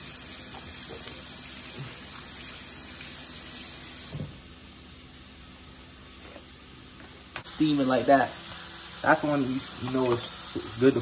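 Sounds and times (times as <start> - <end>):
faucet running water: 0.0 - 11.0.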